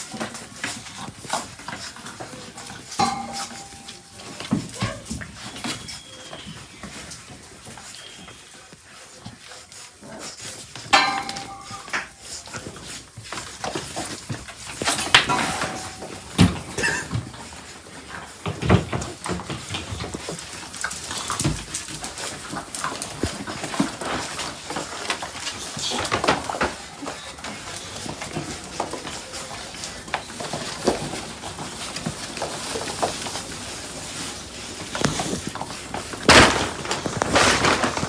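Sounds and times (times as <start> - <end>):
knocks and rustles: 0.0 - 38.0.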